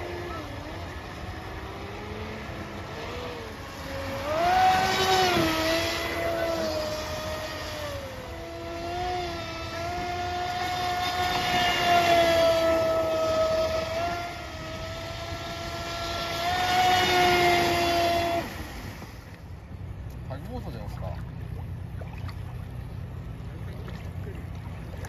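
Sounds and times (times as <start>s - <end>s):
model boat motor whining: 0.0s - 25.0s.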